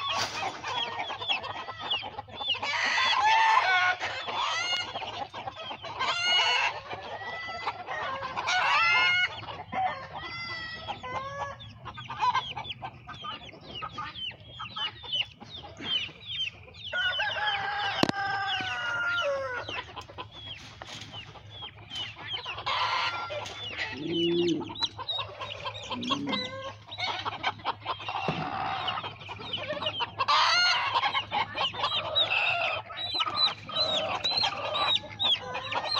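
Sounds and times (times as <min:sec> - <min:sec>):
chickens clucking: 0:00.0 - 0:35.9
chicks peeping: 0:00.0 - 0:35.9.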